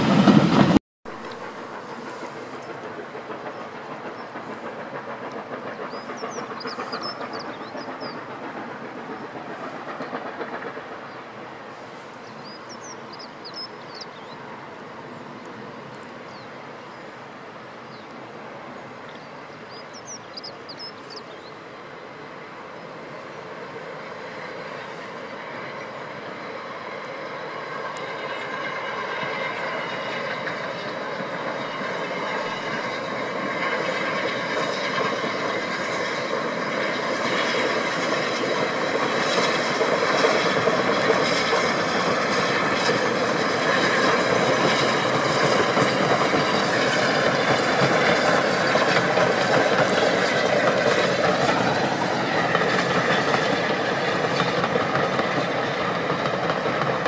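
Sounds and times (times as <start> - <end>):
distant steam locomotive: 0.0 - 57.0.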